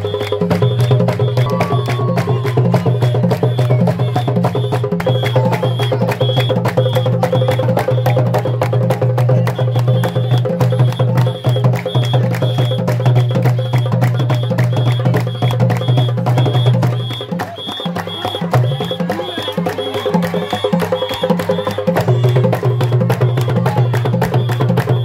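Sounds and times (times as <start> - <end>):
fast drum strikes: 0.0 - 25.0.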